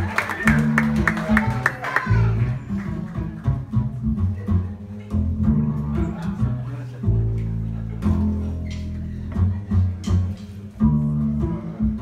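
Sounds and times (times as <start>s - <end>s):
upright bass notes: 0.0s - 12.0s.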